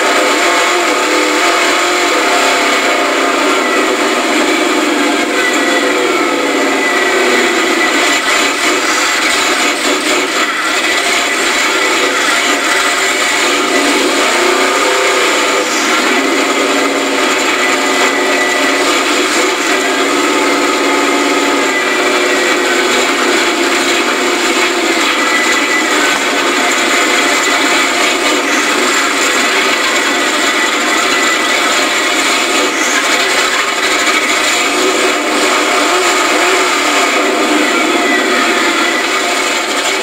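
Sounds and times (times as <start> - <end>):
truck engine running loud: 0.0 - 40.0.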